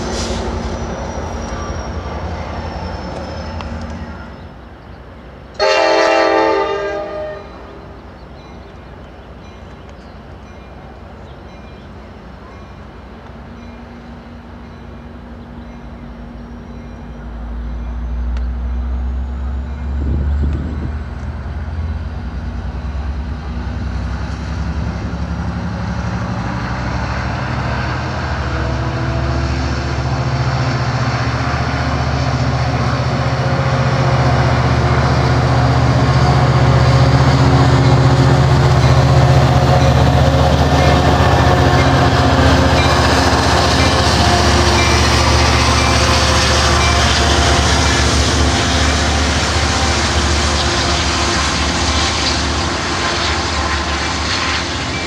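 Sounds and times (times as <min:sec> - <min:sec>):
diesel locomotive engine: 0:00.0 - 0:55.0
rail noise: 0:00.0 - 0:55.0.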